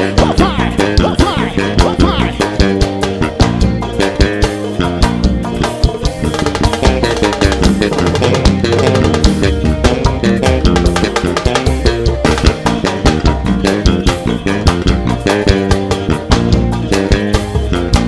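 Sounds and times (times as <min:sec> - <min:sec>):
electric bass line: 0:00.0 - 0:18.0
fast percussion groove: 0:00.0 - 0:18.0.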